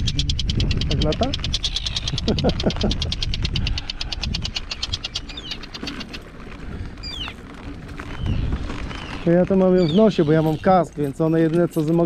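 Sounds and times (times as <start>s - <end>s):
high rapid bird chattering: 0.0s - 6.3s, 7.0s - 7.4s, 8.2s - 11.4s
terns giving alarm calls: 0.0s - 7.4s, 8.0s - 12.0s
low rumble of wind: 0.0s - 12.0s.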